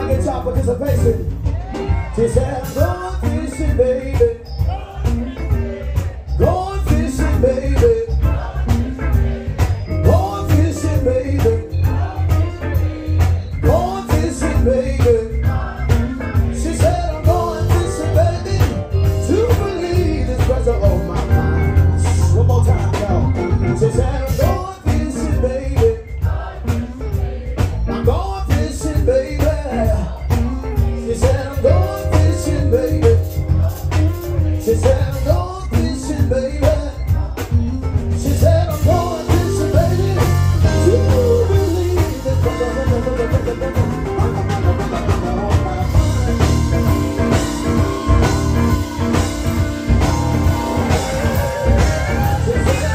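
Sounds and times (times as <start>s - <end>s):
man singing into microphone: 0.0s - 26.8s, 27.9s - 44.4s, 45.1s - 52.9s
live blues band: 0.0s - 52.9s.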